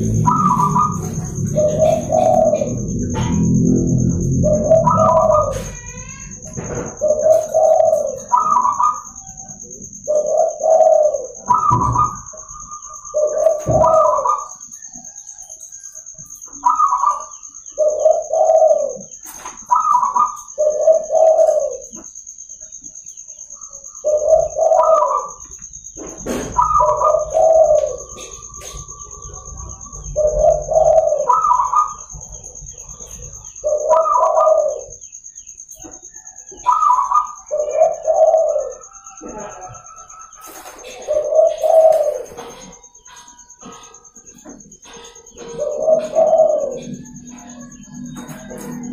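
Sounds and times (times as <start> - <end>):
dove cooing: 0.0 - 48.9
steady high-pitched whine: 0.0 - 48.9.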